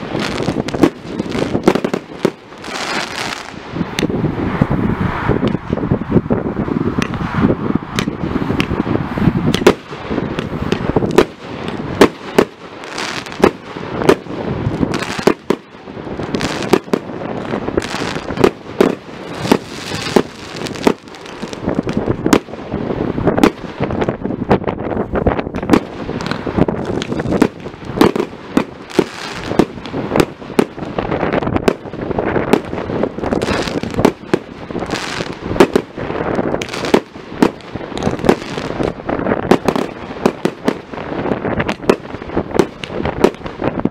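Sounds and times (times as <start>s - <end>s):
continuous rush of noise: 0.0s - 43.9s
fireworks bursting: 0.0s - 43.9s.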